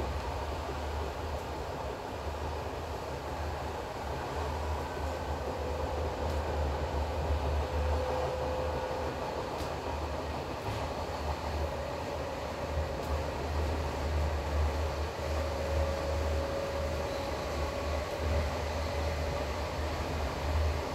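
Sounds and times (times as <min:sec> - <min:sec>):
train wheels rumbling on rail: 0:00.0 - 0:20.9.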